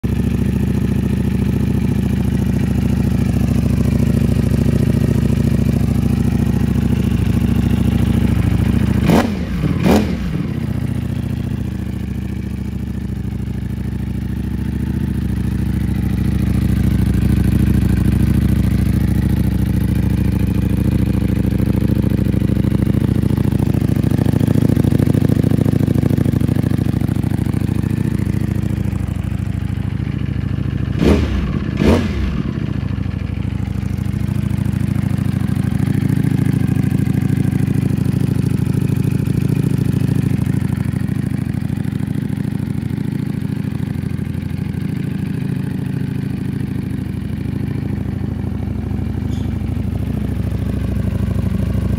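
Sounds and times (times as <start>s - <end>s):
motorcycle engine idling: 0.0s - 51.9s
motorcycle throttle blips: 0.6s - 51.9s.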